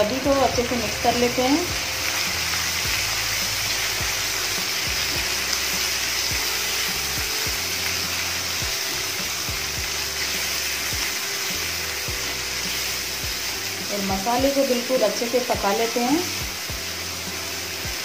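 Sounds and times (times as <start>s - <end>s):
food sizzling in oil: 0.0s - 18.0s
soft background music: 0.0s - 18.0s.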